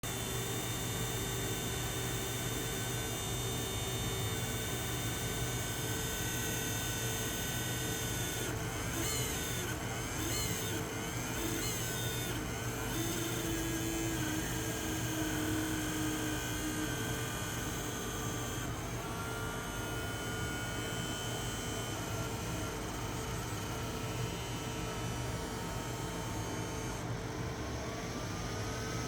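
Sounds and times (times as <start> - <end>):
fan humming and hissing: 0.0 - 29.0.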